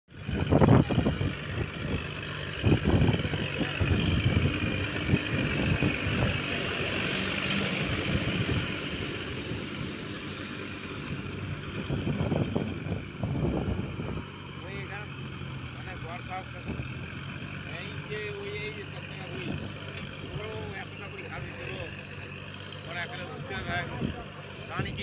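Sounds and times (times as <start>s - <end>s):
tractor diesel engine running: 0.1s - 25.0s.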